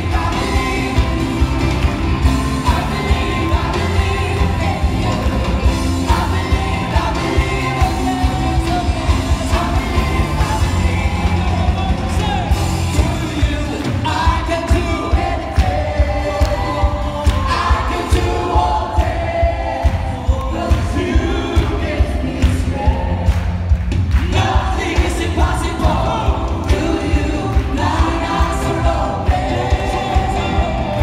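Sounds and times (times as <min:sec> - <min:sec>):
heavy bass: 0:00.0 - 0:31.0
singing: 0:00.0 - 0:31.0
steady drum beat: 0:00.0 - 0:31.0
worship band playing loud: 0:00.0 - 0:31.0.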